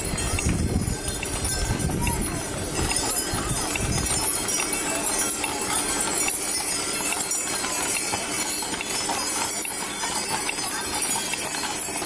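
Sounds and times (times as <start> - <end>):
chained harness jingling: 0.0 - 12.0
horses clip-clopping on asphalt: 0.0 - 12.0.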